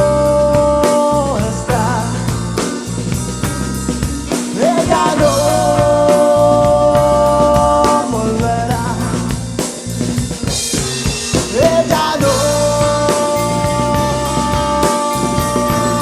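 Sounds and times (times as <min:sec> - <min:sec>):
drum kit break: 0:00.0 - 0:16.0
rock band playing: 0:00.0 - 0:16.0.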